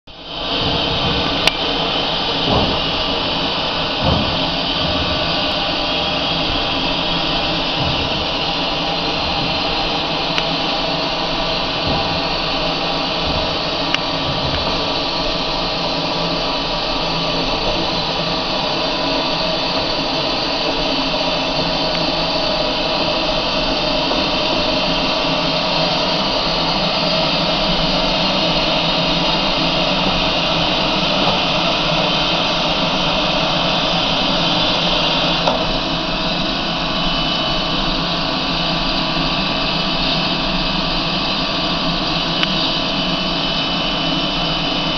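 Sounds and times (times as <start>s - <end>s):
mechanical whine: 0.1s - 44.9s
steam locomotive hiss: 0.2s - 44.9s.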